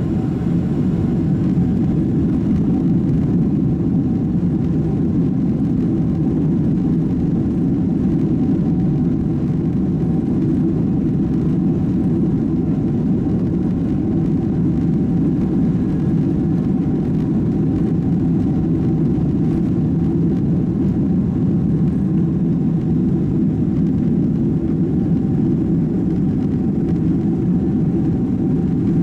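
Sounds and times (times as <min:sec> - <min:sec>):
jet engine rumble in cabin: 0:00.0 - 0:29.0.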